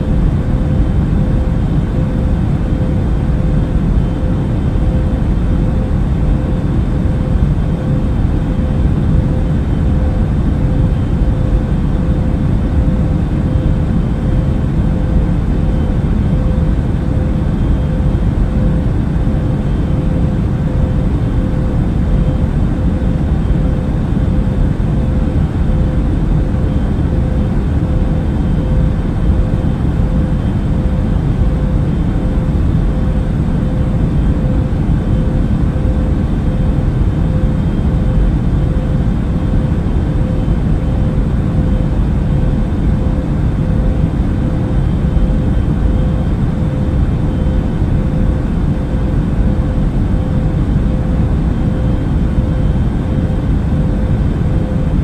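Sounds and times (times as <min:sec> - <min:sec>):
airliner engines and rushing air: 0:00.0 - 0:55.0
constant mid-pitched hum: 0:00.0 - 0:55.0.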